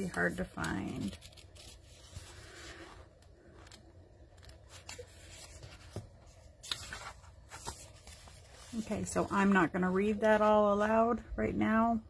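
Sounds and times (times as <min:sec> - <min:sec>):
paper pages rustling: 0:00.0 - 0:10.7.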